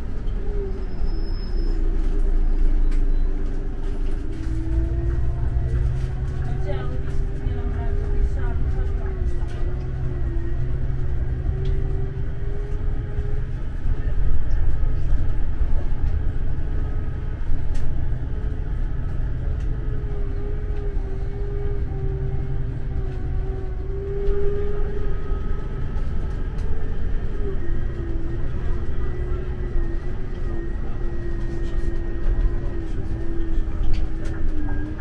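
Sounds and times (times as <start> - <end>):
coach engine and road rumble: 0.0 - 35.0.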